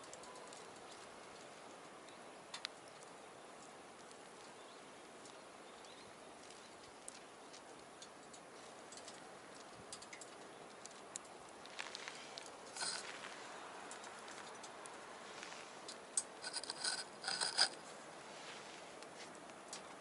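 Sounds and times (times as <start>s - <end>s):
faint steady hiss: 0.0s - 20.0s
wood fire crackling: 0.1s - 20.0s.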